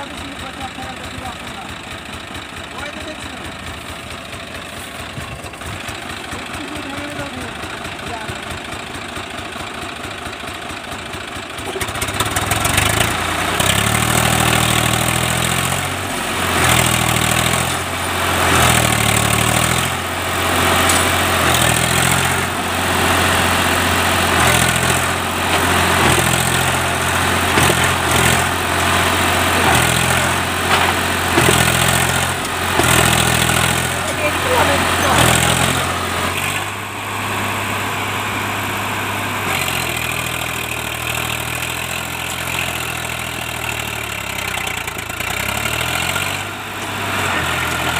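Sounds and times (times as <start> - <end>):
tractor diesel engine revving: 0.0 - 47.9.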